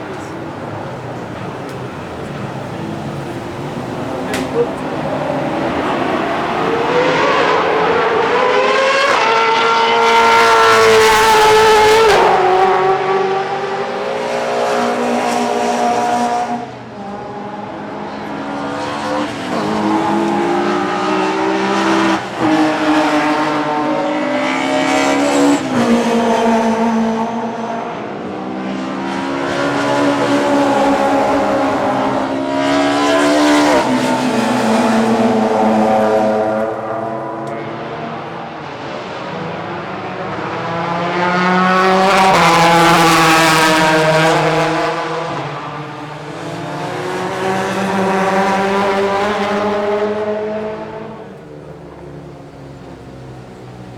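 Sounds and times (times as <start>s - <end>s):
racing cars accelerating past: 0.0s - 53.9s.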